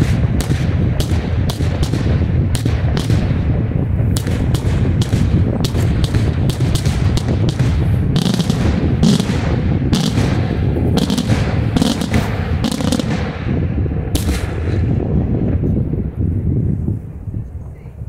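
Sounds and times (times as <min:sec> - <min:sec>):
fireworks bursting with loud bangs: 0:00.0 - 0:16.4
low rumble: 0:00.0 - 0:18.0.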